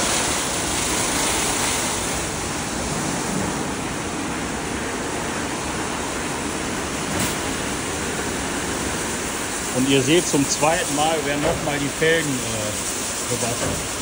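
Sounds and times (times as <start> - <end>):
car wash spraying and brushing: 0.0 - 14.0.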